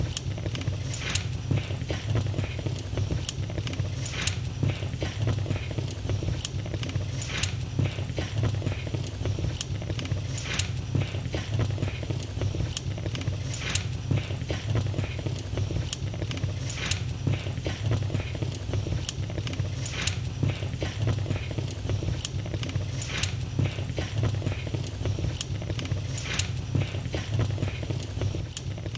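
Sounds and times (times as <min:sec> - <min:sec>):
low fire rumble: 0:00.0 - 0:28.9
wood fire crackling and popping: 0:00.0 - 0:28.9.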